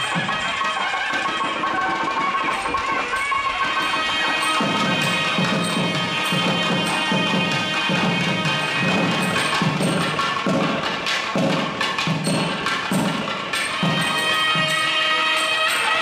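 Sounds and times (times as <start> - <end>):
wind instrument held notes: 0.0 - 16.0.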